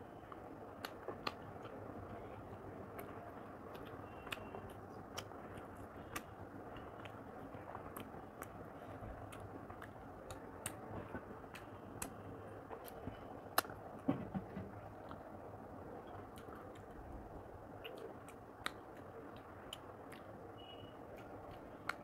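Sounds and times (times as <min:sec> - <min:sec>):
chewing with wet mouth clicks: 0:00.2 - 0:13.8, 0:16.0 - 0:17.1, 0:17.7 - 0:22.0.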